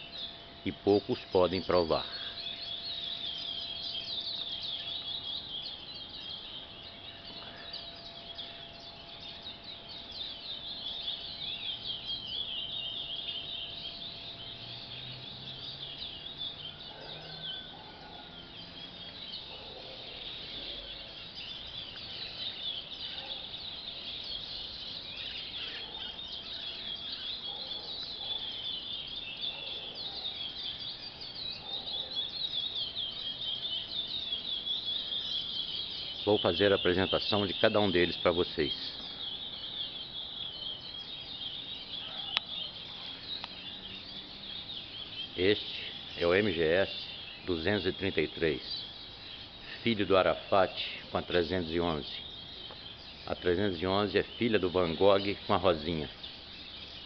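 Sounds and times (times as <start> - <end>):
young finches singing: 0.0 - 57.0.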